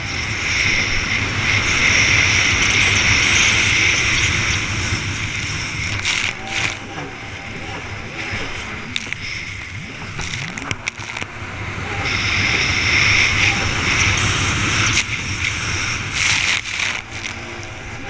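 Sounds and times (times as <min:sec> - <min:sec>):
jet ski engine whining: 0:00.0 - 0:18.0
hull slapping water: 0:00.6 - 0:18.0.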